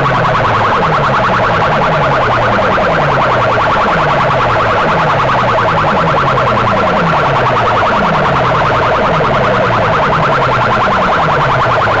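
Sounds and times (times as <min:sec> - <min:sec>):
fast warbling tone: 0:00.0 - 0:12.0
siren-like track over loudspeakers: 0:00.0 - 0:12.0.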